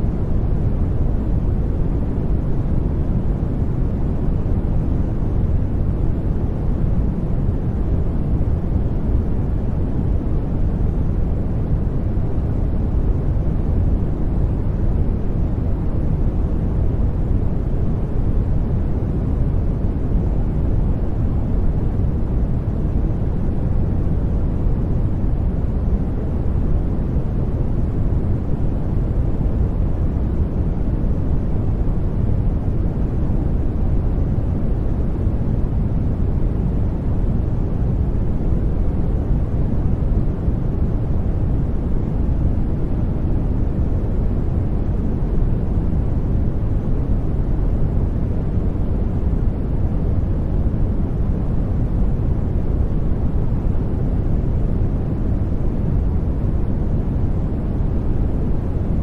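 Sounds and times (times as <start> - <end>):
deep white noise: 0.0 - 59.0.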